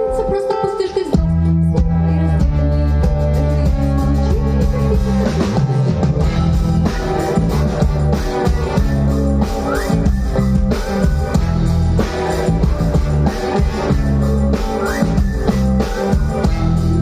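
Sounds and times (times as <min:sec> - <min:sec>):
bass: 0:00.0 - 0:17.0
drums: 0:00.0 - 0:17.0.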